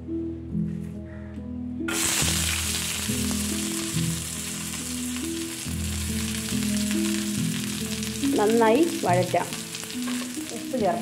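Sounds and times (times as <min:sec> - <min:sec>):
shallots sizzling in hot oil: 0:01.9 - 0:11.0.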